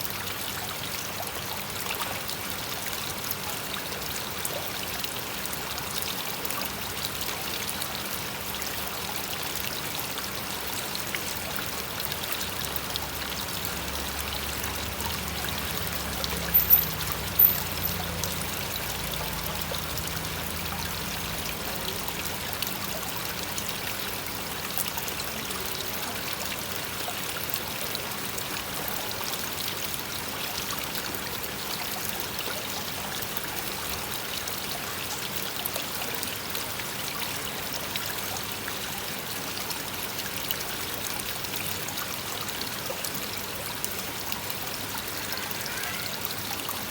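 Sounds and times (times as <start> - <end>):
waterfall pouring into pond: 0.0 - 46.9.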